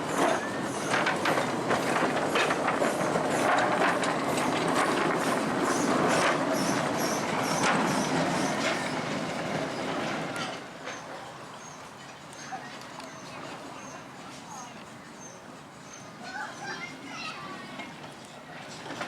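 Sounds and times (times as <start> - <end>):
wheels clicking over rail joints: 0.0 - 15.0, 16.2 - 19.0
miniature train running past: 0.0 - 19.0.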